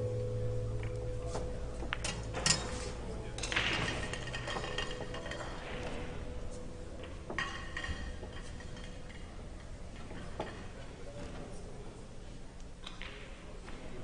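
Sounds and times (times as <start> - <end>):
low hum: 0.0 - 12.8
pool balls clicking: 0.1 - 11.3, 12.6 - 14.0.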